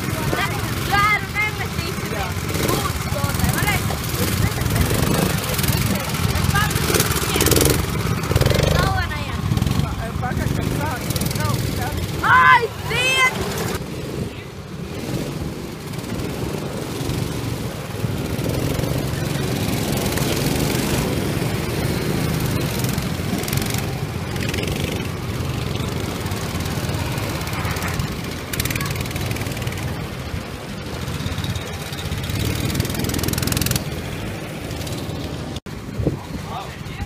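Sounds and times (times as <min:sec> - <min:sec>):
go-kart engines droning: 0:00.0 - 0:37.0.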